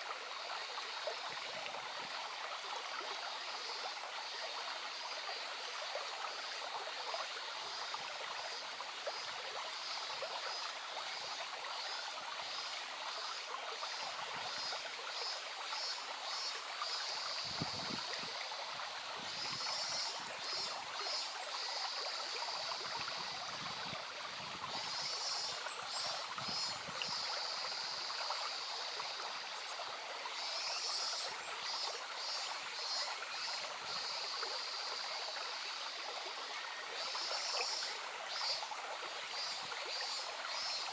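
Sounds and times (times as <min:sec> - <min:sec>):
small stream babbling: 0:00.0 - 0:40.9.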